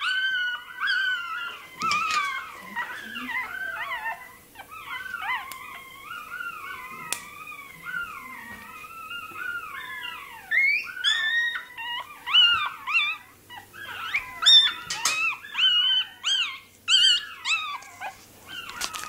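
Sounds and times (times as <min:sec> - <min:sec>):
puppy squealing: 0:00.0 - 0:19.0.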